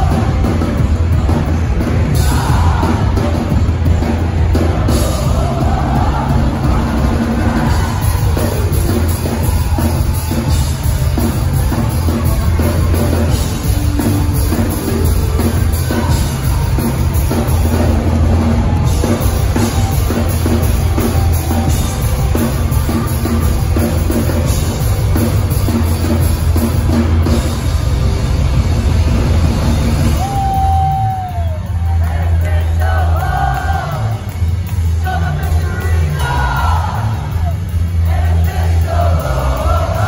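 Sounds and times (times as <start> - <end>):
drum kit pounding: 0.0 - 40.0
punk band playing live: 0.0 - 40.0.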